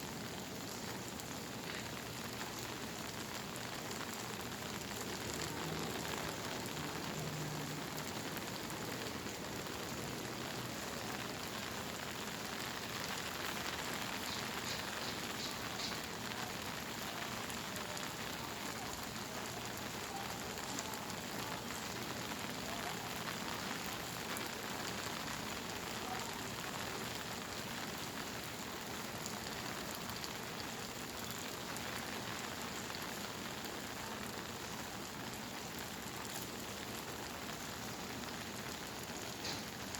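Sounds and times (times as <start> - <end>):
raindrops pattering: 0.0 - 39.9
steady rain hissing: 0.0 - 39.9.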